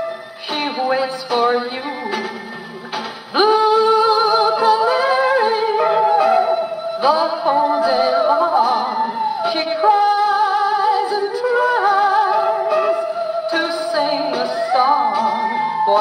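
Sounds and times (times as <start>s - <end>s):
old pop record on gramophone: 0.0s - 16.0s.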